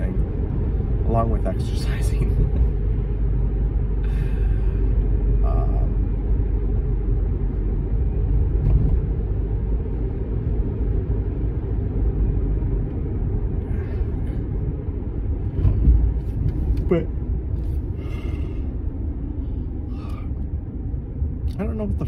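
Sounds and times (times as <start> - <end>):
car road rumble from inside: 0.0 - 22.0.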